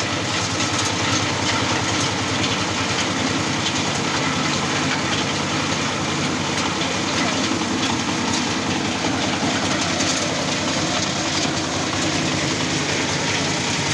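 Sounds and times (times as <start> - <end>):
dehusking machine running: 0.0 - 13.9
engine hum: 0.0 - 13.9.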